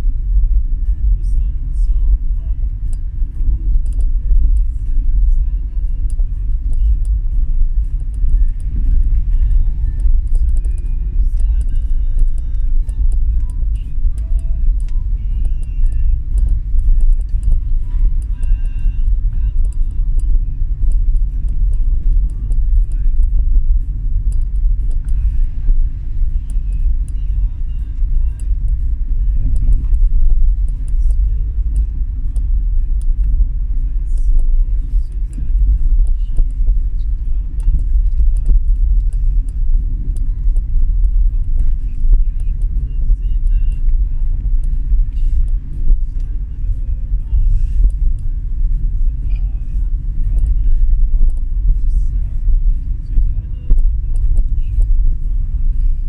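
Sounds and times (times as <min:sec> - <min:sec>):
vehicle road rumble: 0:00.0 - 0:56.0
small ticks and rattles: 0:00.8 - 0:55.9.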